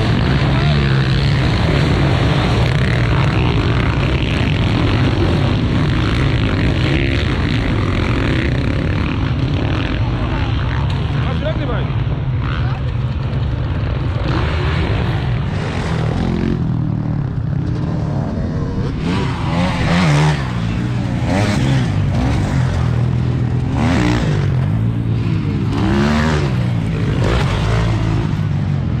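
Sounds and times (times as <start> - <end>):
motocross engines revving: 0.0 - 29.0.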